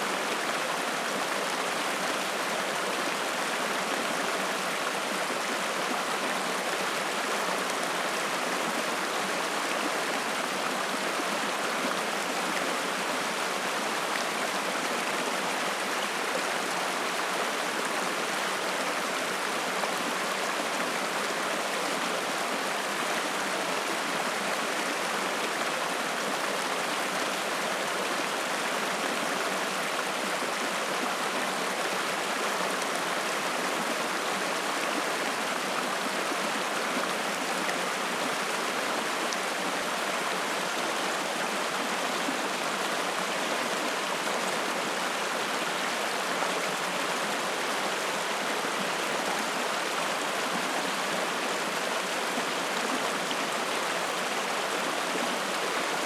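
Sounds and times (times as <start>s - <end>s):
stream rushing water: 0.0s - 56.0s.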